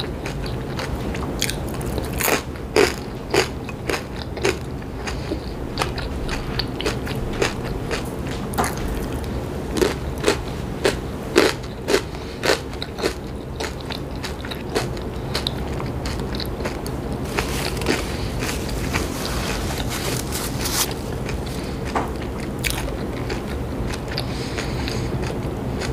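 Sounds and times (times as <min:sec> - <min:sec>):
crunchy snack chewing: 0:00.0 - 0:25.9.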